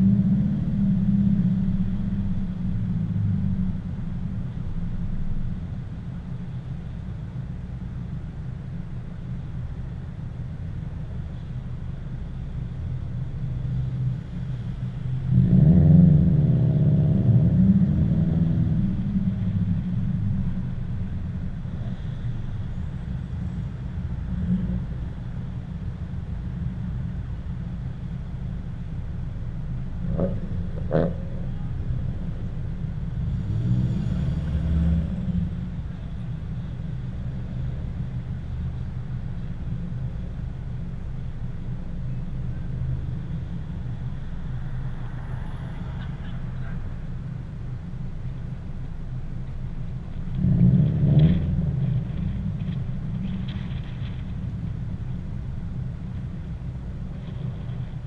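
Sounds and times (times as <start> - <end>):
car road noise: 0.0 - 58.0
wind rumble on microphone: 0.0 - 58.0.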